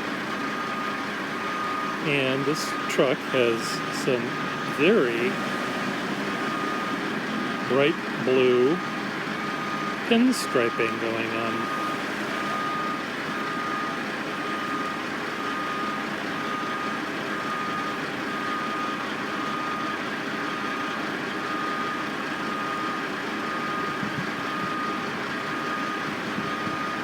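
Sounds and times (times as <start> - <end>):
heavy machinery engines running: 0.0 - 27.0
reversing alarm beeps: 0.4 - 27.0.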